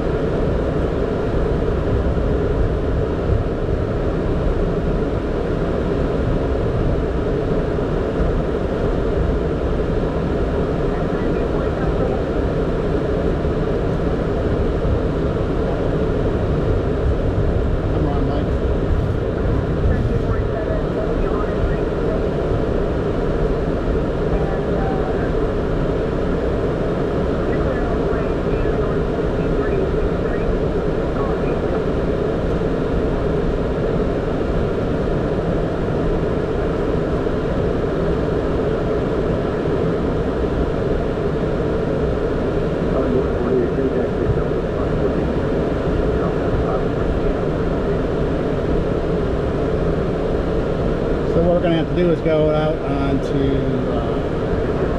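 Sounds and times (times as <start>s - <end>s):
aircraft engine and airflow noise: 0.0s - 54.9s.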